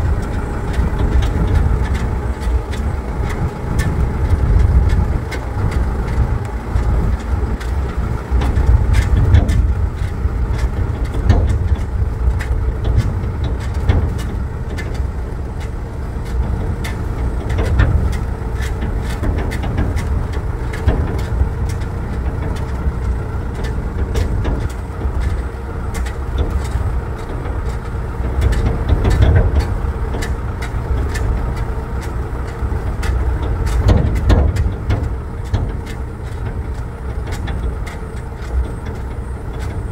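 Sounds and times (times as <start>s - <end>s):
short knocks and rattles: 0.0s - 39.9s
vehicle engine rumble: 0.0s - 39.9s.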